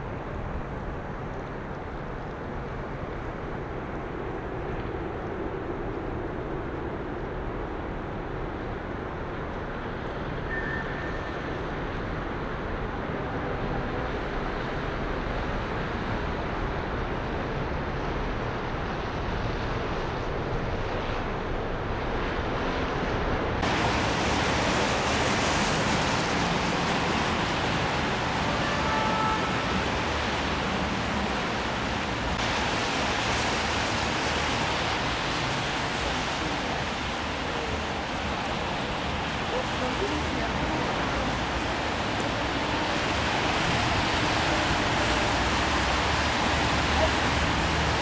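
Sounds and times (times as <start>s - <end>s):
steady rushing outdoor noise: 0.0s - 48.0s.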